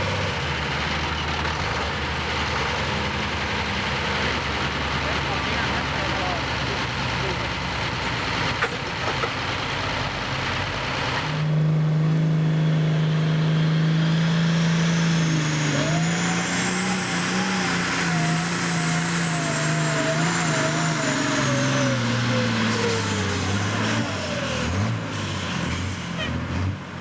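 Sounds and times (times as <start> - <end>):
second tractor engine running: 0.0 - 25.3
diesel tractor engine full throttle: 0.0 - 27.0.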